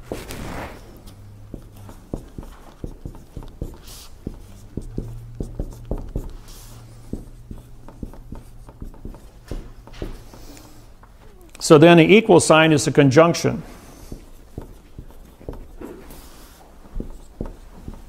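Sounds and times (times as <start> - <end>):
marker writing on whiteboard: 0.0 - 11.3, 13.7 - 18.0.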